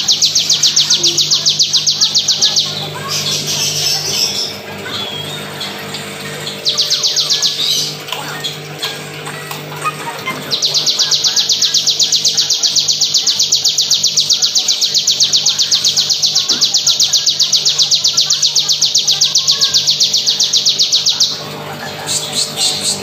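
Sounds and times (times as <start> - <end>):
bird trilling high notes: 0.0 - 21.5.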